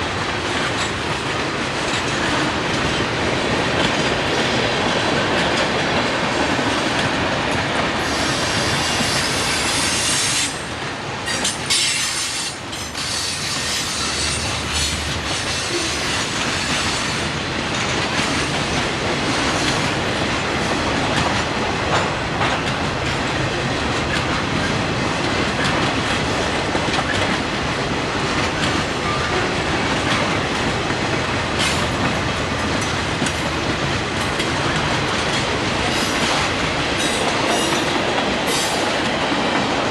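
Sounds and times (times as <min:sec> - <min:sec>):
freight train rolling past: 0:00.0 - 0:39.9
steel wheels clacking on rails: 0:00.0 - 0:39.9.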